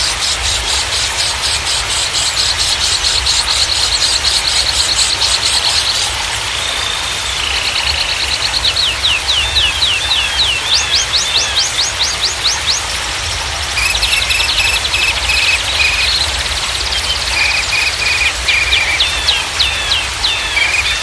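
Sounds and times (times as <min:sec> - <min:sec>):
running water rushing: 0:00.0 - 0:21.0
songbird singing trills: 0:01.9 - 0:13.0, 0:13.8 - 0:21.0.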